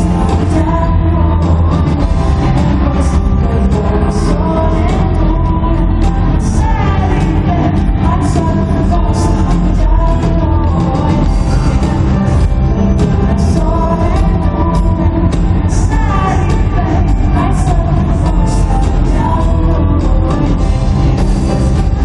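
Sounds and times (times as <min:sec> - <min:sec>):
bass: 0:00.0 - 0:22.0
drums: 0:00.0 - 0:22.0
guitar: 0:00.0 - 0:22.0
keyboards: 0:00.0 - 0:22.0
person singing: 0:00.0 - 0:22.0.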